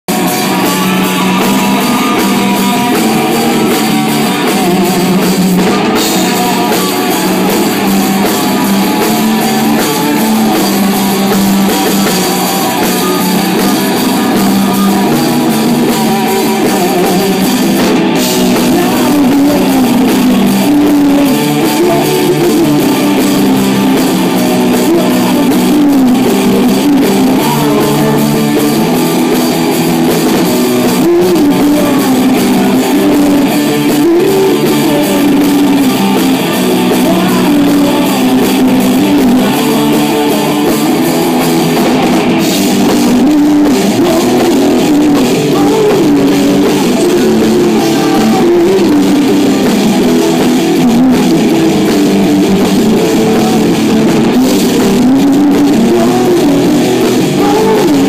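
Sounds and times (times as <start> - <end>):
drum kit: 0.0 - 58.0
electric guitar: 0.0 - 58.0
live rock band: 0.0 - 58.0.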